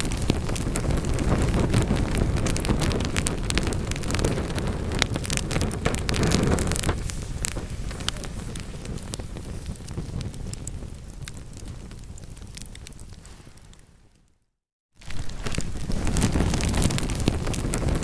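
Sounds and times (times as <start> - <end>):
wood fire crackling and popping: 0.0 - 14.4, 15.0 - 18.0.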